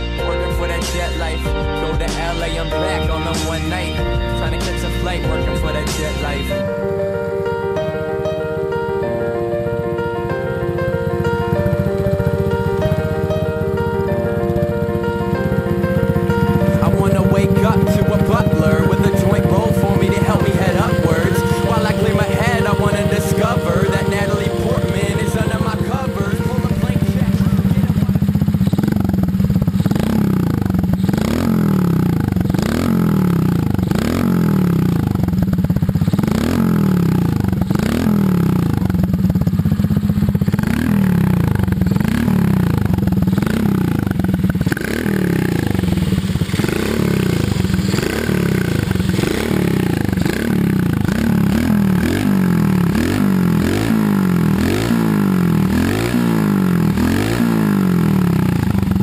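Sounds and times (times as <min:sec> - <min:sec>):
small motorcycle engine revving: 0:00.8 - 0:59.0.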